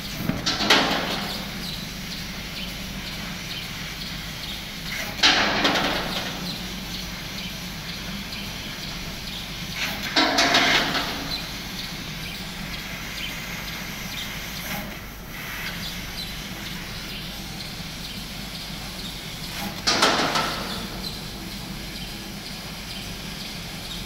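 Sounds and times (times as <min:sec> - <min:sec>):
laser cutter hissing bursts: 0:00.0 - 0:24.0
machine hum: 0:00.0 - 0:24.0.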